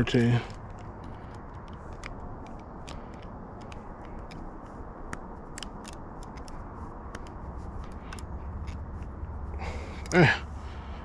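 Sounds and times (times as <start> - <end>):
cartridge clicking into magazine: 0.2 - 9.2.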